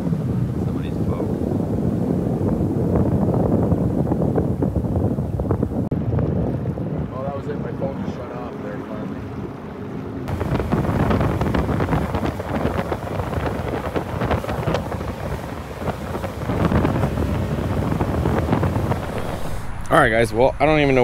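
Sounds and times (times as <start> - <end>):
boat wake rushing: 0.0 - 21.0
wind rushing over microphone: 0.0 - 21.0.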